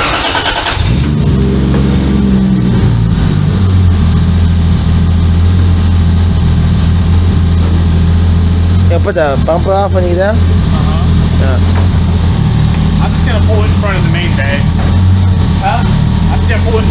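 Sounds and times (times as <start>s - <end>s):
car engine starting and idling: 0.0s - 16.9s.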